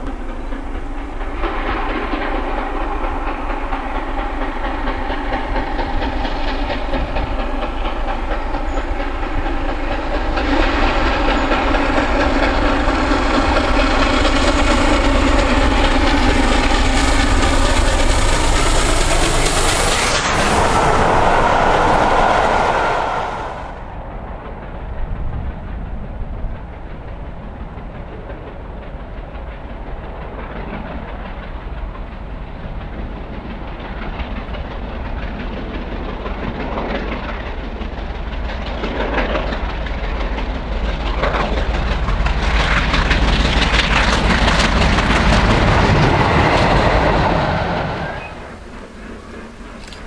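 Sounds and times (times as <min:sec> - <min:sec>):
steam locomotive exhaust: 0:00.0 - 0:50.0
train wheels clattering on rails: 0:00.0 - 0:50.0.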